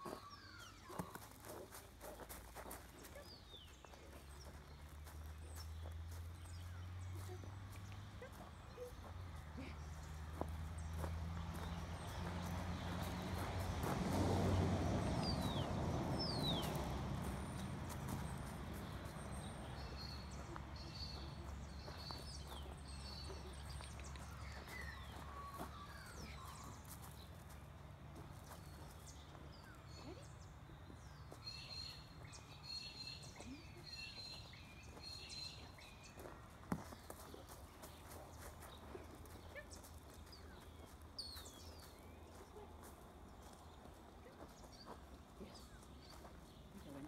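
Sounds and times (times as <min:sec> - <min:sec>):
footsteps on gravel: 0:00.0 - 0:29.7, 0:34.2 - 0:47.0.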